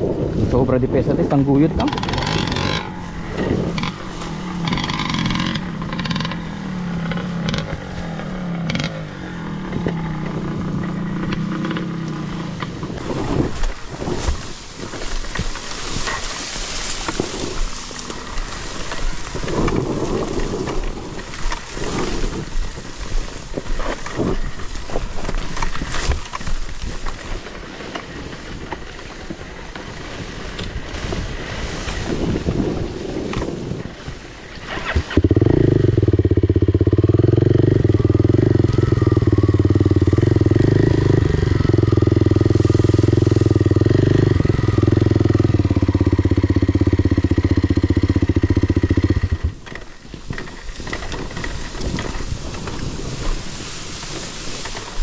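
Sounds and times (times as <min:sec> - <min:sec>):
dirt bike engine running: 0:00.0 - 0:55.0
knocks and rattles over rough ground: 0:00.0 - 0:55.0.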